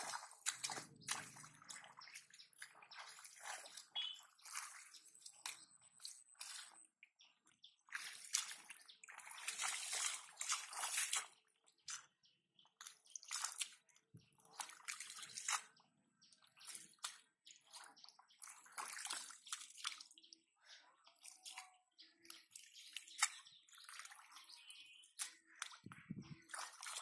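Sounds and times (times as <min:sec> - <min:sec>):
hands splashing in muddy water: 0:00.0 - 0:20.2, 0:21.1 - 0:27.0.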